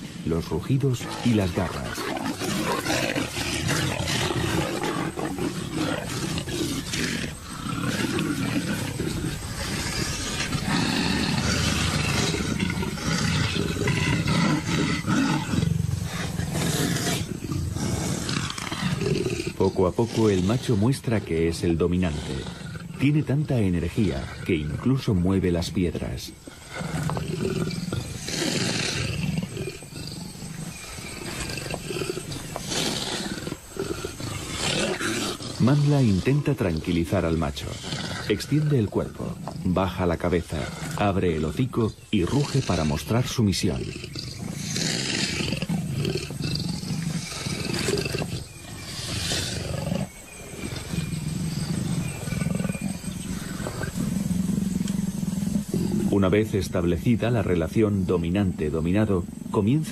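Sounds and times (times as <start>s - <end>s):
leopards growling and roaring: 0.0s - 59.9s.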